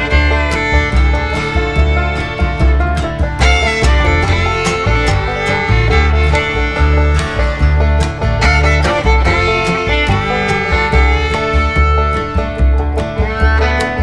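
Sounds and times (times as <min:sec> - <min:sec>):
upbeat country music with fiddle: 0:00.0 - 0:14.0.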